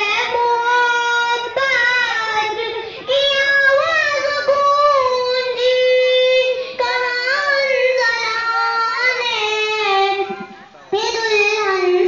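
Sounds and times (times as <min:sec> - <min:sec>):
boy singing through loudspeaker: 0:00.0 - 0:12.0.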